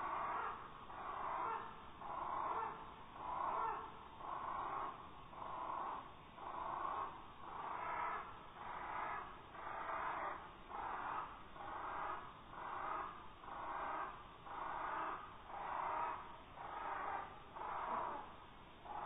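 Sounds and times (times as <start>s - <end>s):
slowed bird calls: 0.0s - 19.0s.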